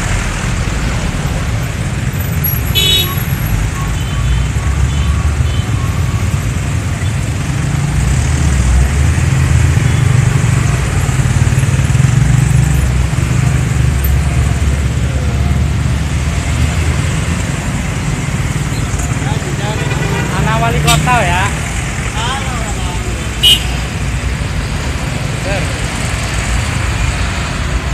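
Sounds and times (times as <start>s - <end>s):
slow road traffic rumble: 0.0s - 27.9s.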